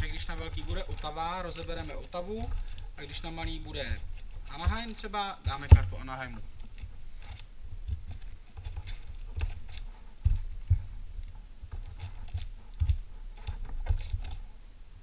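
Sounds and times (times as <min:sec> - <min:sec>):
foil packs rustling and crinkling: 0:00.0 - 0:14.5.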